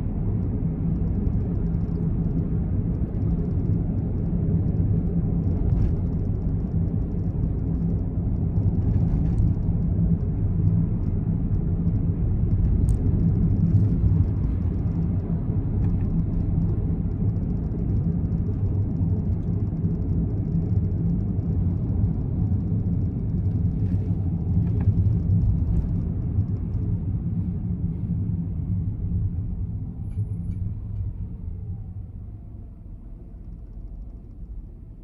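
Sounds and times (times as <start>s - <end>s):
car engine rumbling: 0.0s - 35.0s.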